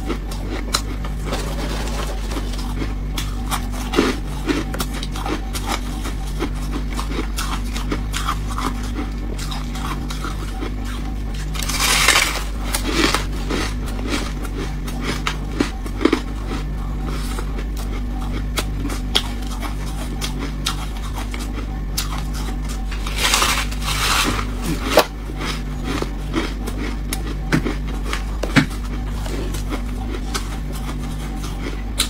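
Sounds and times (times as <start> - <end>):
chewing crunches: 0.0 - 32.0
steady low hum: 0.0 - 32.0
teeth crunching frost: 0.0 - 32.0.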